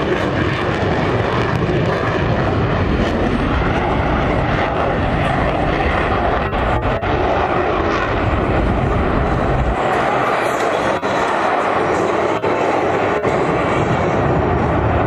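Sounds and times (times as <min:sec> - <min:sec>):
jet flying overhead: 0:00.0 - 0:15.0.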